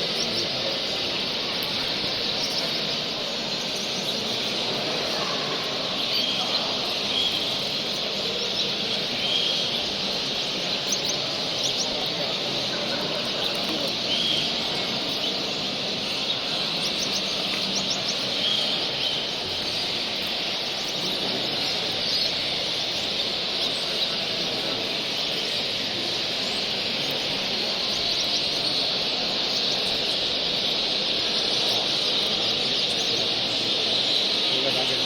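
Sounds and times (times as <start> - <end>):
finches chirping chorus: 0.0 - 35.0
sharp finch chirps: 0.0 - 35.0.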